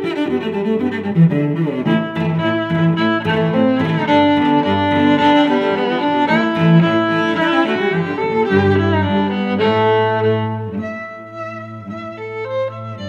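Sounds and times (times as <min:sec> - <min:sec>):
bowed strings melody: 0:00.0 - 0:13.0.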